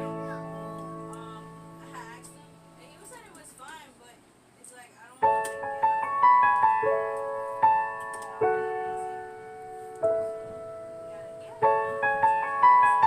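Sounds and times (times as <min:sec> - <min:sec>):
gentle piano music: 0:00.0 - 0:03.2, 0:05.2 - 0:13.0.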